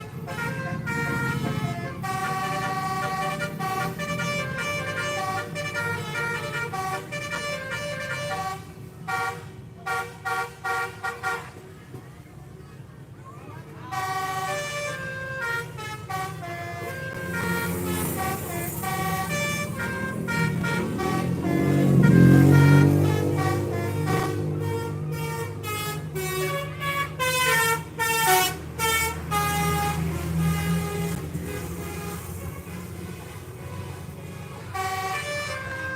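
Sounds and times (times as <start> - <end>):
multi-tone bus horn: 0.0 - 12.0, 13.5 - 35.9
bus engine rumble: 0.0 - 35.9.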